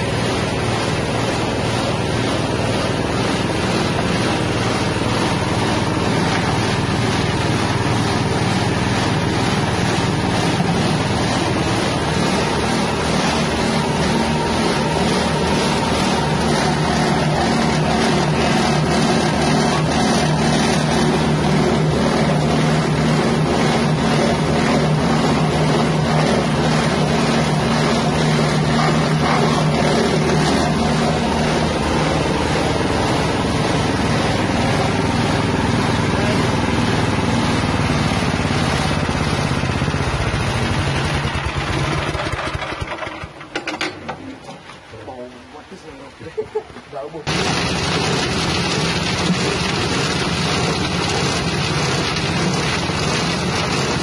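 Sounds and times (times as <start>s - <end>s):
engine-driven hammer mill grinding: 0.0s - 46.1s, 46.9s - 54.0s.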